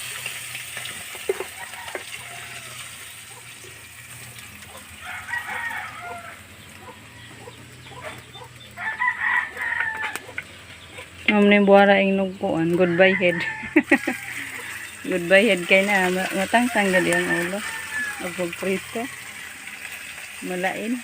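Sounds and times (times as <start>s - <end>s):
chickens clucking: 0.7s - 20.3s.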